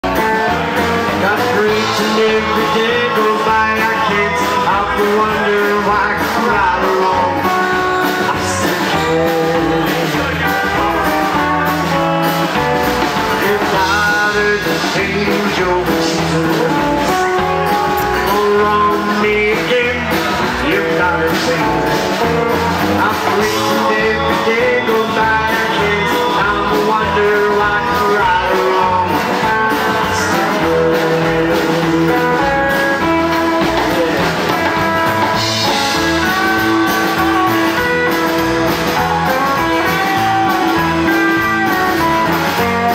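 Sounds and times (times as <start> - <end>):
drums: 0.0 - 42.9
electric guitar: 0.0 - 42.9
stage keyboard: 0.0 - 42.9
upright bass: 0.0 - 42.9.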